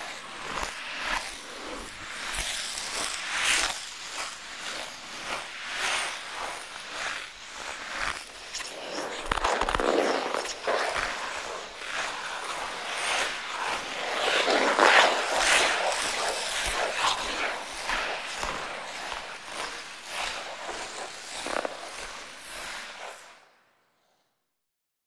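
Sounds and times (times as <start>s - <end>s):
ice skate blades scraping ice: 0.0s - 23.6s.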